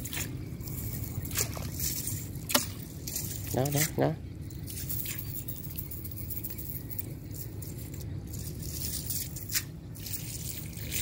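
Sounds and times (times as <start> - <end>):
chain leadline clinking: 0.0 - 11.0
steady low rumble: 0.0 - 11.0.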